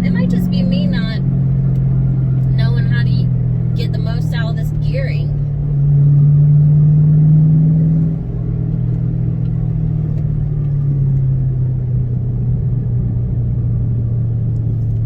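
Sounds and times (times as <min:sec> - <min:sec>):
car engine droning under throttle: 0:00.0 - 0:15.0.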